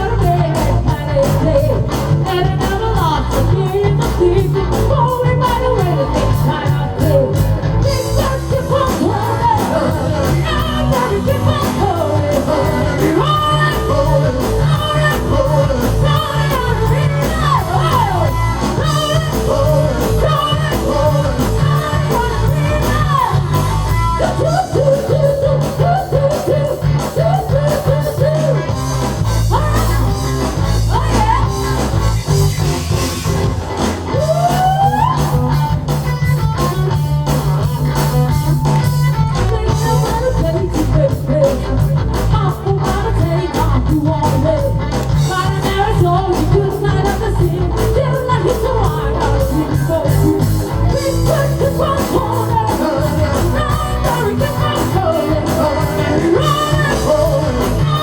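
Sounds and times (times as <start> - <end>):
person singing: 0.0 - 33.4, 34.1 - 58.0
bass guitar: 0.0 - 58.0
drums steady beat: 0.0 - 58.0
electric guitar: 0.0 - 58.0.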